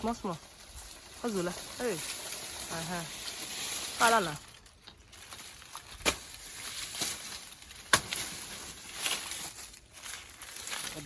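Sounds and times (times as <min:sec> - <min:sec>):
faint outdoor background: 0:00.0 - 0:11.0.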